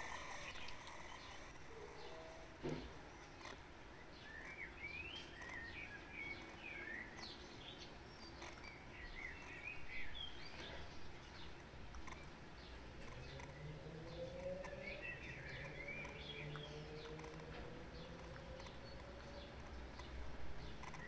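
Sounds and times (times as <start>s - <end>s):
birds chirping: 0.0s - 21.0s
low background hum: 0.0s - 21.0s.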